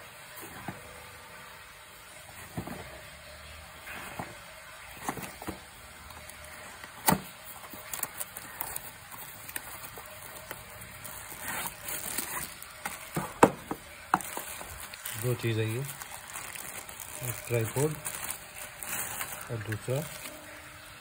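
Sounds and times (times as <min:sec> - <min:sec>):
packaging rustling: 0:02.2 - 0:03.1, 0:03.8 - 0:20.8.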